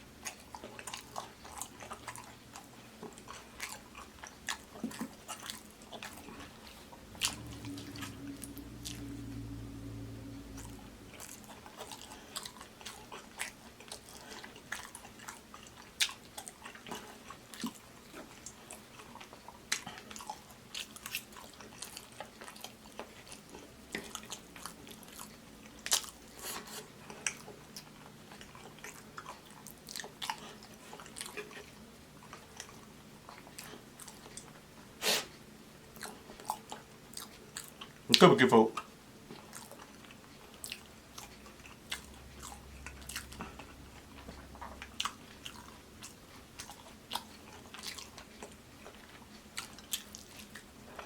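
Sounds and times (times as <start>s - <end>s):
wet chewing and lip smacking: 0.2s - 38.1s, 38.8s - 51.0s.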